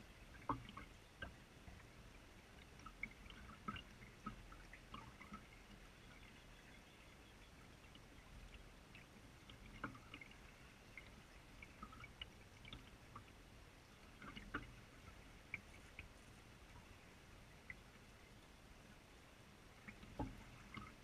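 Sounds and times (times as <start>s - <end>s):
water plinks and drips: 0.0s - 18.0s, 19.8s - 21.0s
creek water lapping and gurgling: 0.0s - 21.0s
water splashes: 0.0s - 21.0s.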